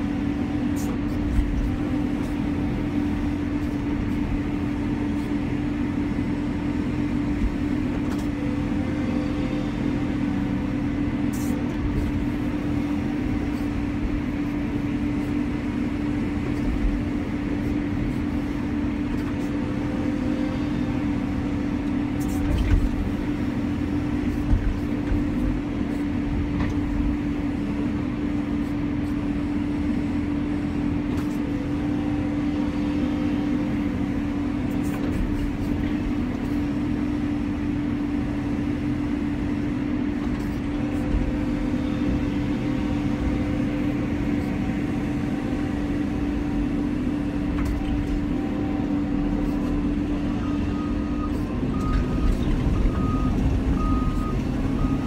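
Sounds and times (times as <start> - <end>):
diesel engine hum and rumble: 0.0 - 55.0.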